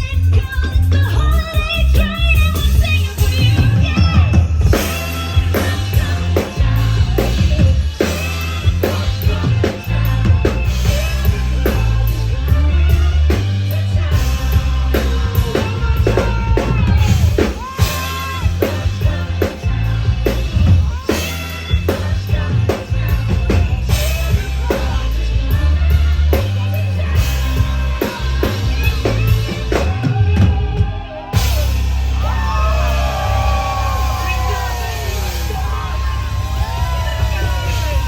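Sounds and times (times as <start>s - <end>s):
drum kit: 0.0s - 38.0s
heavy bass line: 0.0s - 38.0s
live pop-rock band: 0.0s - 38.0s
person singing: 0.0s - 38.0s.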